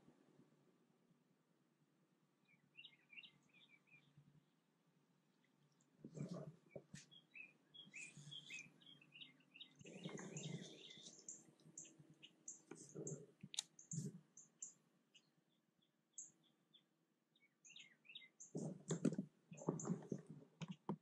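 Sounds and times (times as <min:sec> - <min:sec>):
birds chirping: 0:02.4 - 0:04.3, 0:05.3 - 0:21.0.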